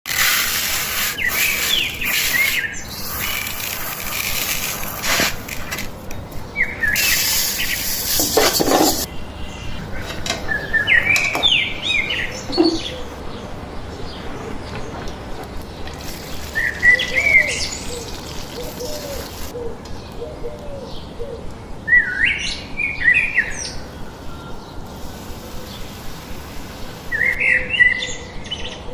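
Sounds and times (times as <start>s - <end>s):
steady high hiss: 0.1s - 20.1s, 21.0s - 28.4s
small birds chirping: 0.1s - 28.9s.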